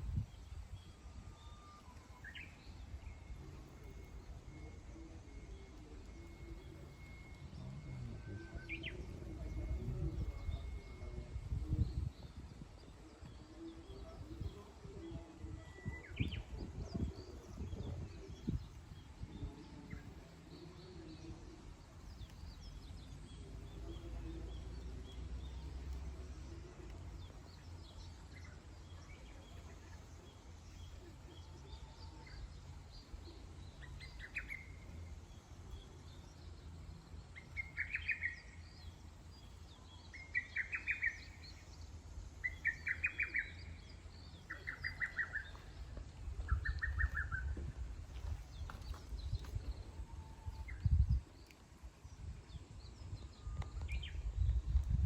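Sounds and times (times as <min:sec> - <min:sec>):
birds chirping: 0:00.0 - 0:55.0
low steady rumble: 0:00.0 - 0:55.0.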